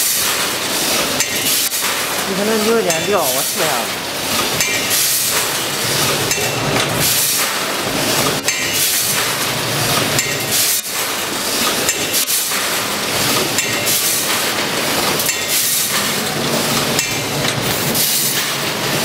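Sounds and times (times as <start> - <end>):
packaging machine clattering: 0.0 - 19.0.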